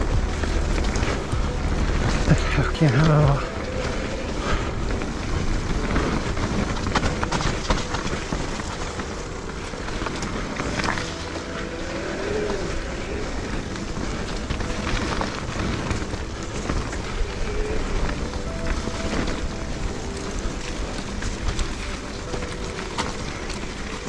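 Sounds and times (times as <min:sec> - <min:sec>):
bike clicks and rattles: 0:00.0 - 0:24.0
tyres rumbling on dirt trail: 0:00.0 - 0:24.0.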